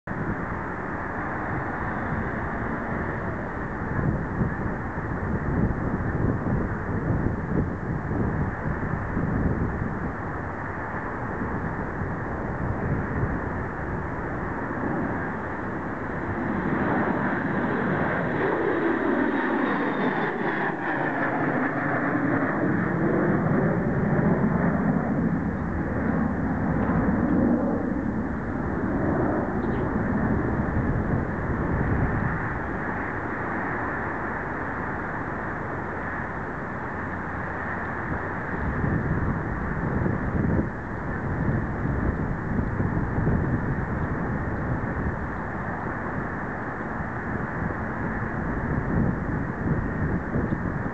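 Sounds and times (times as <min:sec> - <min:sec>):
distant jet engine rumble: 0:00.0 - 0:50.9
wind buffeting microphone: 0:00.0 - 0:50.9.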